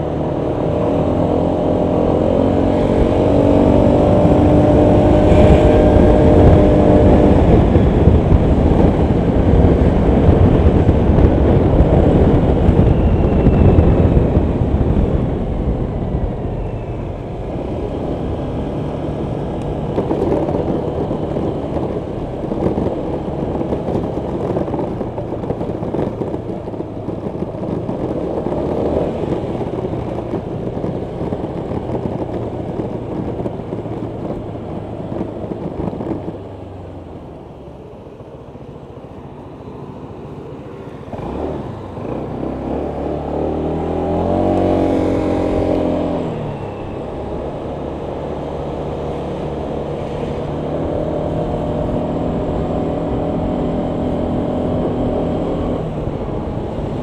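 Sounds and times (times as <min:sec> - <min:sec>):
road rumble: 0:00.0 - 0:57.0
wind: 0:00.0 - 0:57.0.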